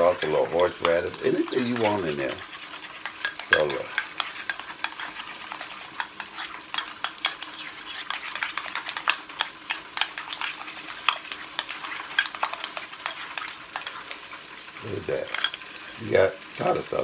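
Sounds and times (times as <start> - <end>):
spoon scraping a bowl: 0.0 - 14.4, 15.2 - 15.7.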